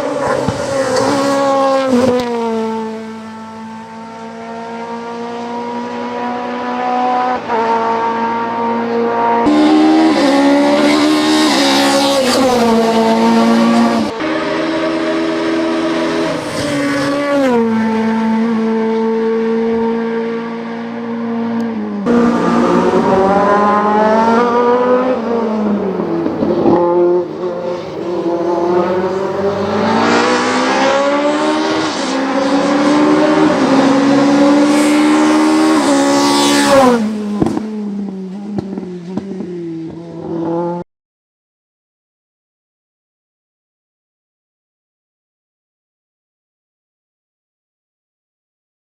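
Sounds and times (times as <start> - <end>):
race car engine at full throttle: 0.0 - 40.8.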